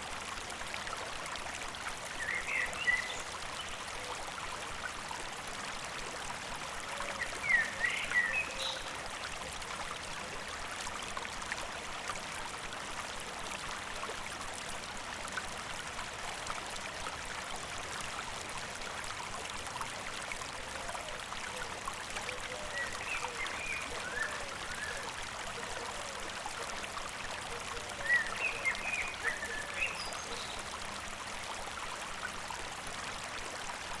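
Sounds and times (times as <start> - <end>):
small stream babbling: 0.0 - 34.0.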